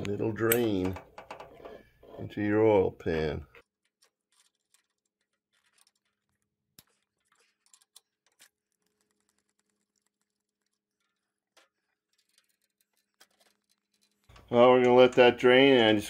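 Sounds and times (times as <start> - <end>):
faint clicks and scratches of tape: 0.0 - 2.3, 3.0 - 16.0.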